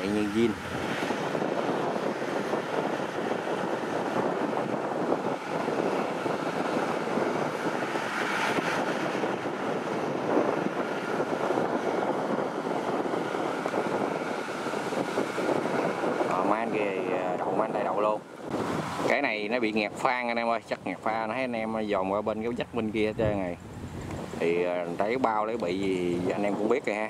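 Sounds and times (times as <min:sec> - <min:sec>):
combine harvester engine and threshing: 0:00.0 - 0:27.0.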